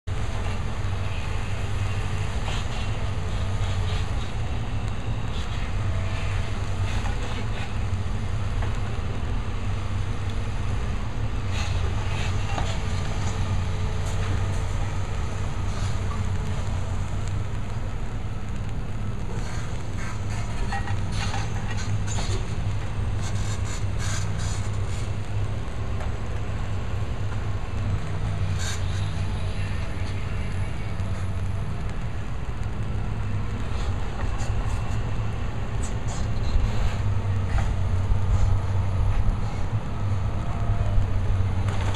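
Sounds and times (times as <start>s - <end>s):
excavator diesel engine running: 0.1s - 41.9s.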